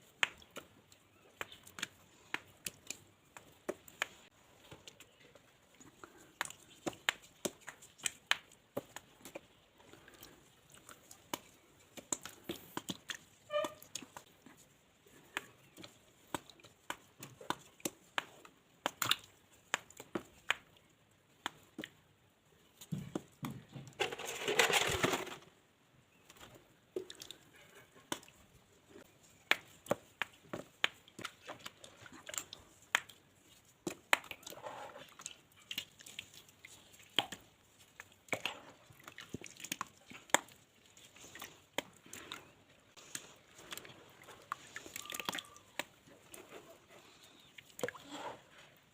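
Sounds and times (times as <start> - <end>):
dried mud crunching: 0.0 - 48.9.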